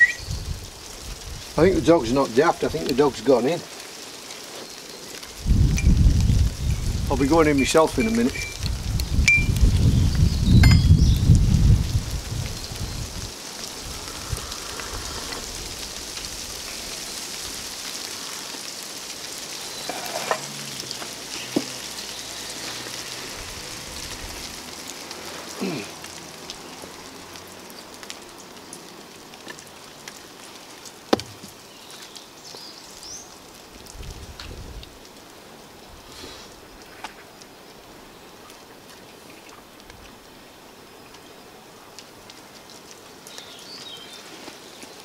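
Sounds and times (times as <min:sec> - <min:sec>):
light rain pattering: 0:00.0 - 0:45.0.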